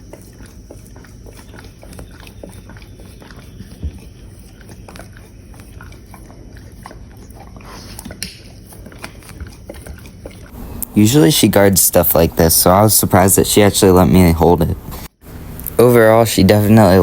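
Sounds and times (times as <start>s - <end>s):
dog licking and chewing: 0.0s - 17.0s.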